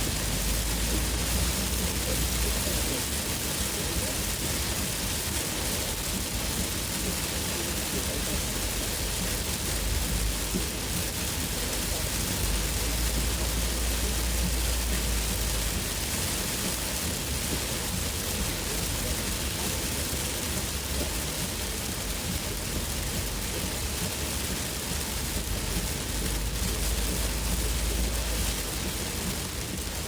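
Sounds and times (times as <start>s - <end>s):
car rumbling on wet road: 0.0s - 30.0s
heavy rain on a car: 0.0s - 30.0s.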